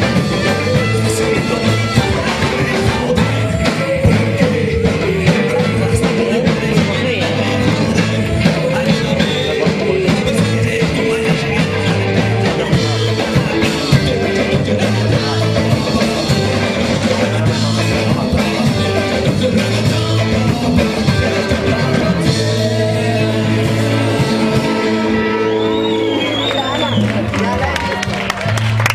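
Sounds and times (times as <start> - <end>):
person singing: 0.0 - 26.7
bass: 0.0 - 28.9
drums: 0.0 - 28.9
electric guitar: 0.0 - 28.9.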